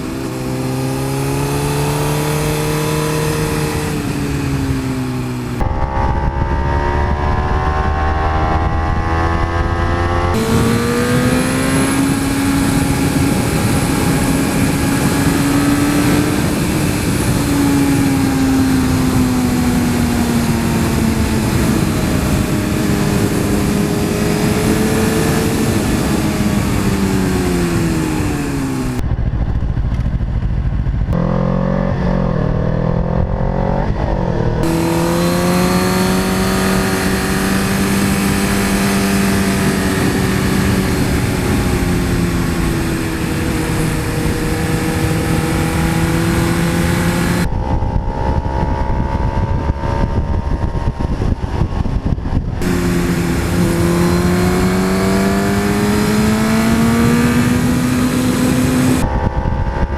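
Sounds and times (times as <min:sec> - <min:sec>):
motorcycle engine on road: 0:00.0 - 0:59.9
wind rush: 0:00.0 - 0:59.9.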